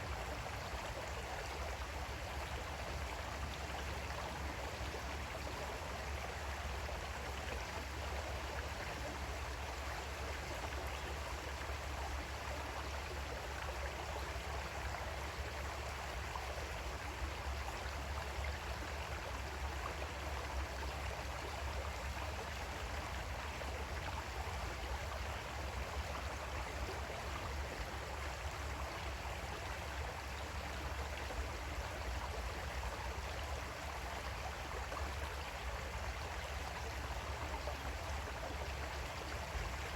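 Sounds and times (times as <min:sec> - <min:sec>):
creek water babbling over rocks: 0:00.0 - 0:39.9.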